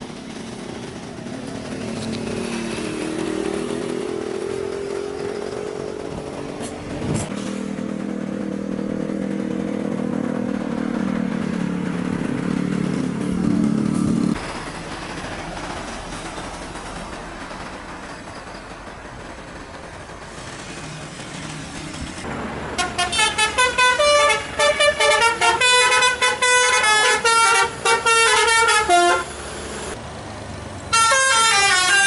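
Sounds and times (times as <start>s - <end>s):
bus engine running under load: 0.0s - 32.0s.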